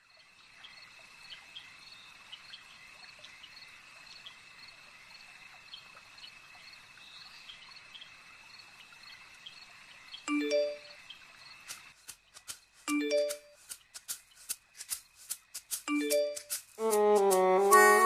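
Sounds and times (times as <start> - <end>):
cricket chirps: 0.0 - 16.9.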